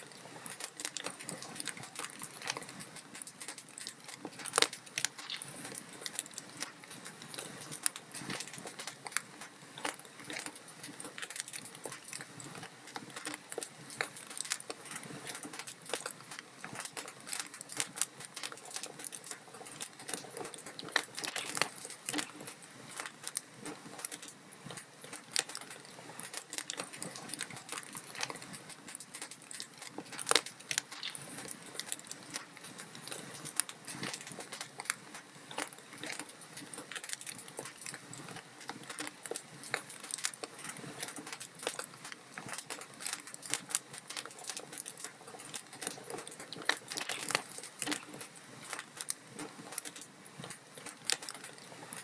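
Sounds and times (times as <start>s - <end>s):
log fire crackling: 0.0s - 52.0s.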